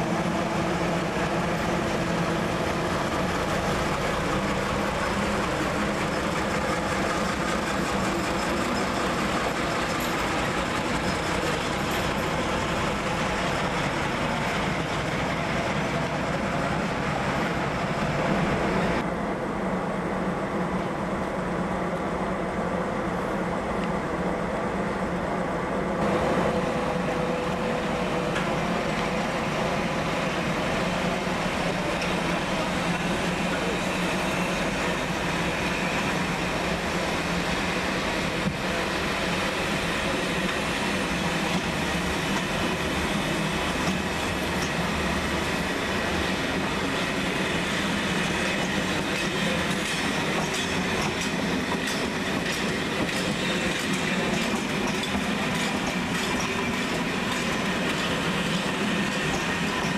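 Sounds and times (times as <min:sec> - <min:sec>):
train rolling on rails: 0:00.0 - 0:59.9.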